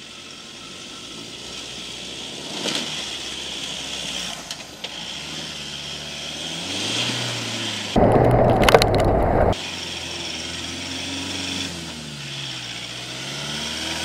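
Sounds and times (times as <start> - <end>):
pickup engine and tyre noise: 0.0 - 14.0.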